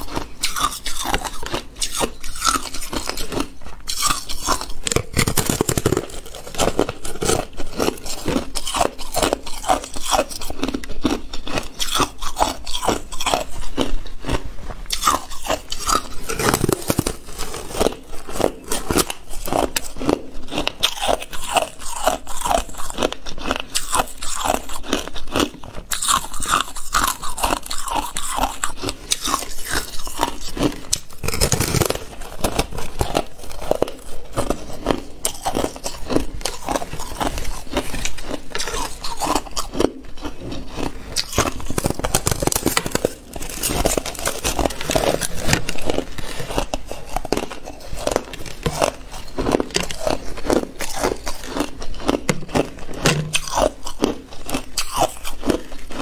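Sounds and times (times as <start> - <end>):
chewing crunchy ice: 0.0 - 56.0.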